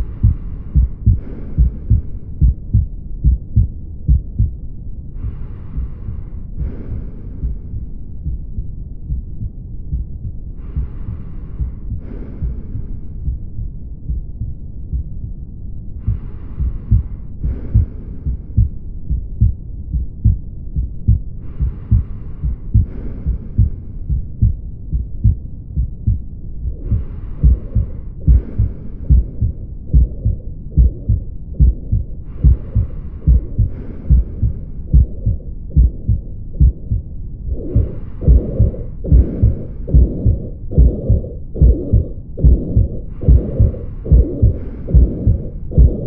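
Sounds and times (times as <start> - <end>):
blowing heart murmur: 0.0 - 46.0
low heartbeats: 0.0 - 46.0.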